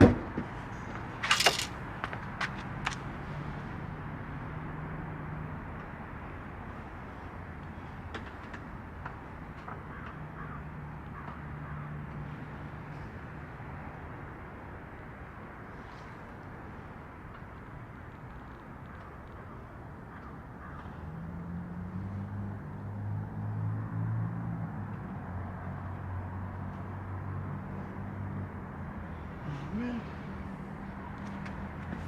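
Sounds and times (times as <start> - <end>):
outdoor traffic noise: 0.0 - 32.0
vehicle engine humming nearby: 0.0 - 32.0.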